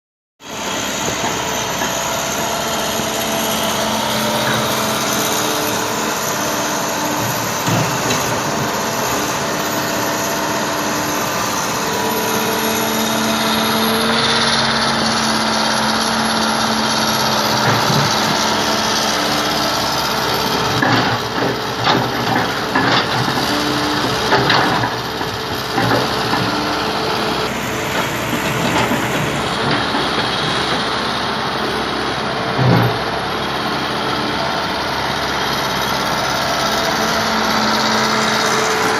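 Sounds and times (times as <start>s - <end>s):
diesel engine running: 0.4s - 38.9s.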